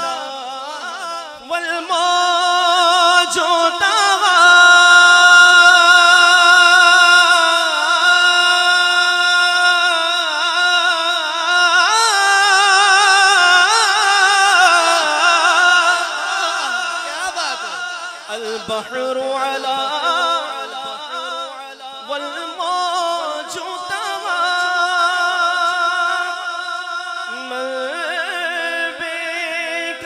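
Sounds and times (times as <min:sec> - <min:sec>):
man singing with vibrato: 0:00.0 - 0:30.0.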